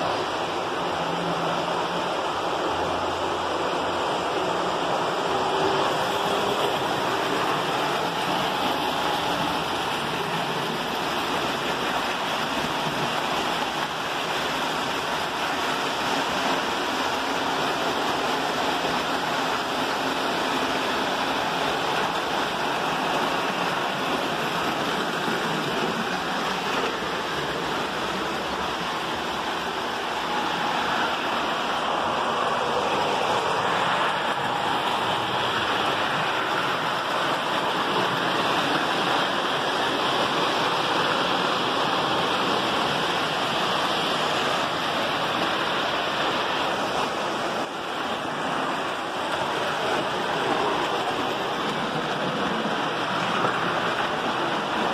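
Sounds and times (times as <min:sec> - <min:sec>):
toy trains rumbling on metal track: 0:04.1 - 0:54.9.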